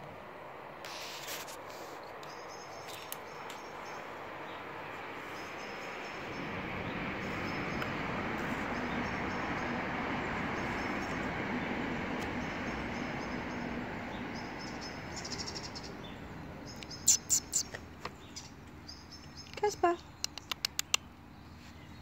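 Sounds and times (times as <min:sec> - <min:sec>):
outdoor rushing noise: 0:00.0 - 0:18.8
small birds chirping: 0:00.9 - 0:22.0.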